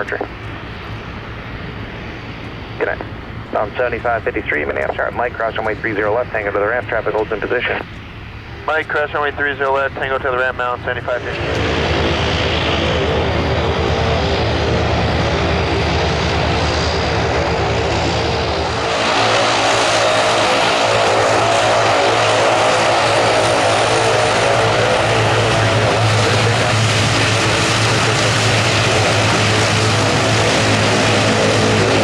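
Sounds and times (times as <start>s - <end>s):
aircraft engines humming: 0.0s - 32.0s.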